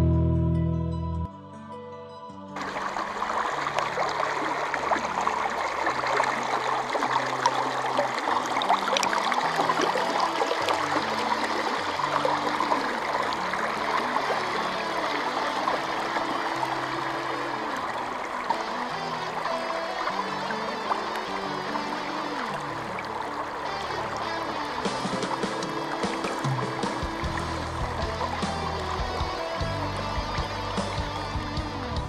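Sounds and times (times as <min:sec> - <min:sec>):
river water rushing over rocks: 0:02.6 - 0:31.9.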